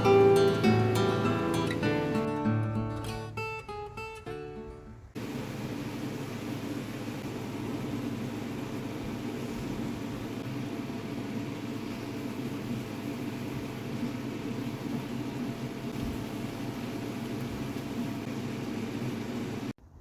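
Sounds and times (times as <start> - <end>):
kitchen fan whirring: 0.0 - 2.7, 3.4 - 20.0.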